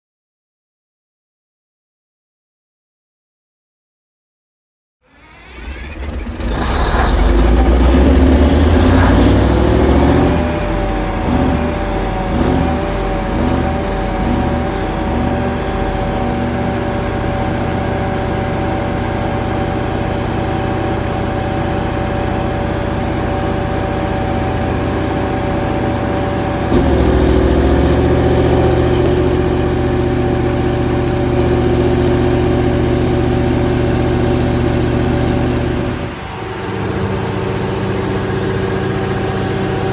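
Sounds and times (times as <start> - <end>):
diesel generator rumble with whine: 5.1 - 39.9.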